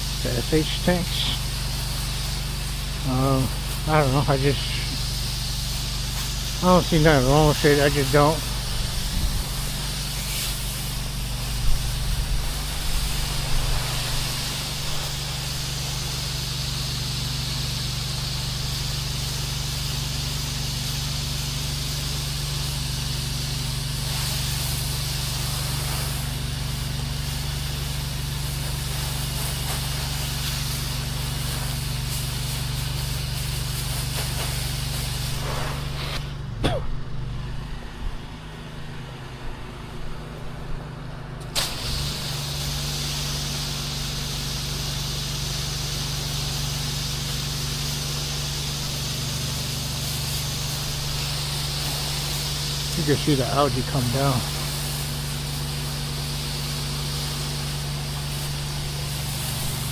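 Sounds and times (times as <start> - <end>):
hose spray hissing: 0.0 - 36.6, 41.4 - 59.9
pump humming: 0.0 - 59.9.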